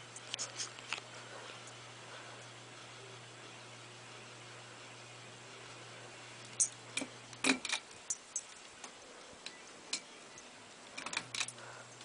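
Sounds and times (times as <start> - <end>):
ceiling fan running: 0.0 - 12.0
steady low hum: 0.0 - 12.0.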